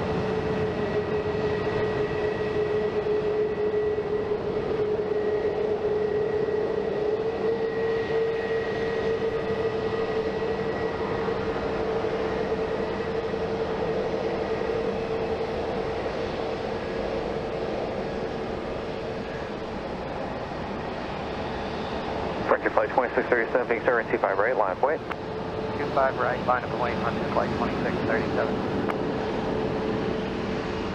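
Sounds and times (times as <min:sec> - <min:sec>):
jet engines whining: 0:00.3 - 0:30.9.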